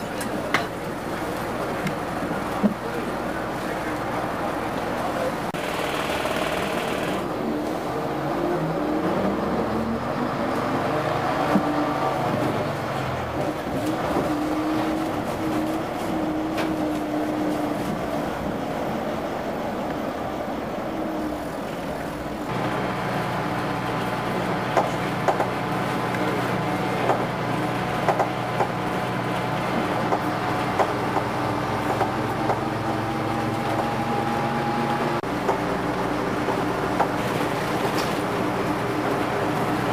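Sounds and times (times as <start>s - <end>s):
bus body and windows rattling: 0.0s - 39.9s
bus engine and transmission: 0.0s - 39.9s.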